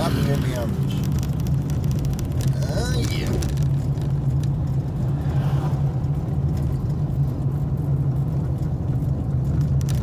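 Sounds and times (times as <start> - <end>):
car engine and tyres humming: 0.0 - 10.0.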